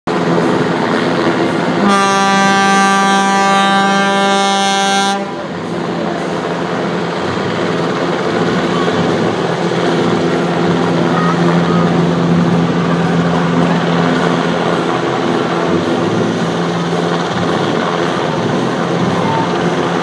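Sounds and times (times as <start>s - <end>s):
helicopter rotor and engines: 0.1s - 20.0s
ship's horn blast: 0.2s - 6.0s, 8.4s - 20.0s.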